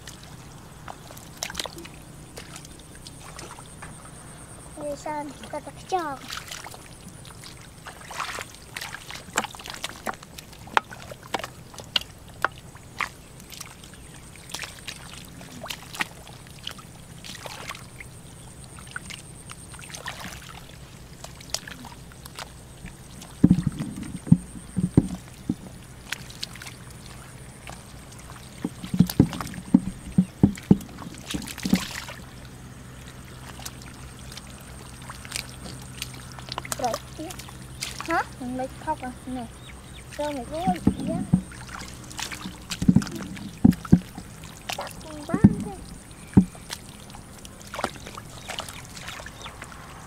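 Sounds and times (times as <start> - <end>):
small splashes and clicks: 0.0 - 4.0, 4.8 - 49.9
sloshing in muddy water: 0.0 - 50.0.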